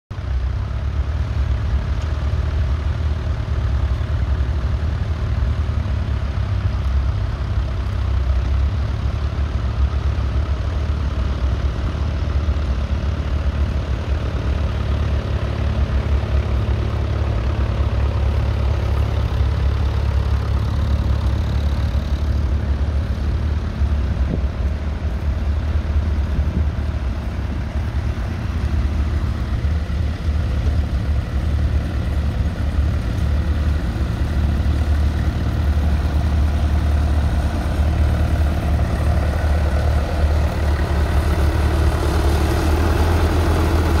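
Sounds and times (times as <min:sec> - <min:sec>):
tractor engine droning: 0:00.1 - 0:44.0.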